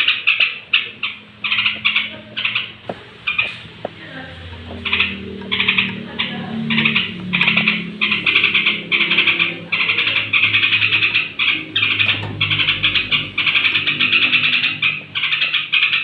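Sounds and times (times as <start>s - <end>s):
bird chattering: 0.0s - 16.0s
faint low hum: 0.0s - 16.0s.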